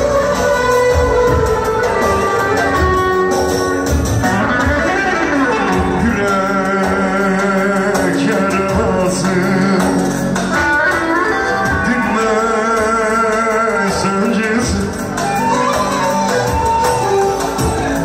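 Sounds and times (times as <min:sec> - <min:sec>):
steady percussion: 0:00.0 - 0:18.0.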